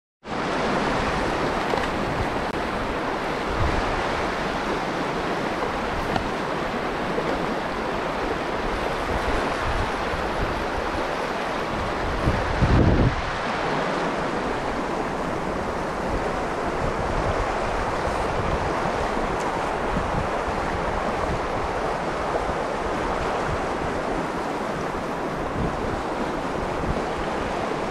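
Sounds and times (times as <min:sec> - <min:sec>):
river water rushing over rocks: 0:00.3 - 0:27.9.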